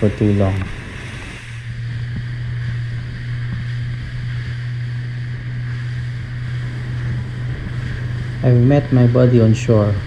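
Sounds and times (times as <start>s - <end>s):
motorboat engine humming: 0.0s - 10.0s
wind and water hiss: 0.0s - 10.0s.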